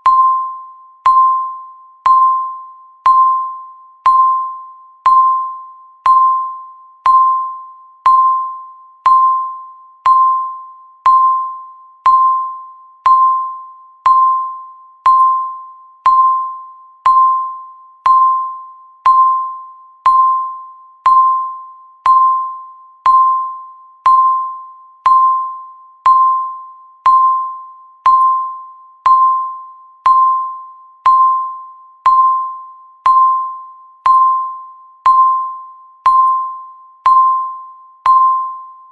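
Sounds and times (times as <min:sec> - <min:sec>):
countdown timer ding: 0:00.0 - 0:38.8.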